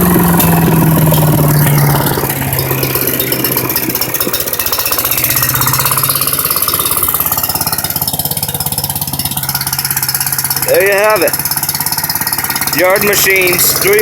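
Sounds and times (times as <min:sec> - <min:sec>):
wood chipper engine running: 0:00.0 - 0:14.0.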